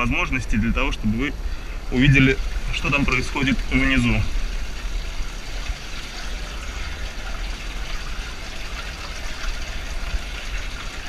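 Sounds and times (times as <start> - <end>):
water gurgling: 0.0 - 11.0.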